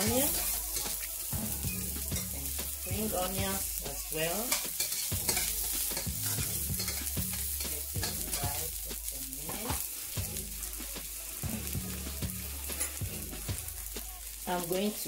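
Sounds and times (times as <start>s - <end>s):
onions sizzling in hot oil: 0.0s - 15.0s
spatula stirring against pan: 0.0s - 15.0s.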